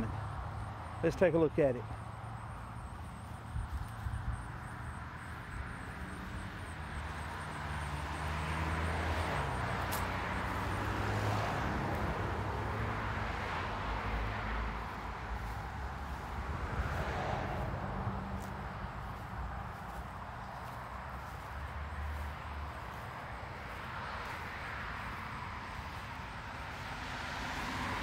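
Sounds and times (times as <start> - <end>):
vehicle road noise: 0.0 - 28.0
low engine hum: 1.8 - 28.0.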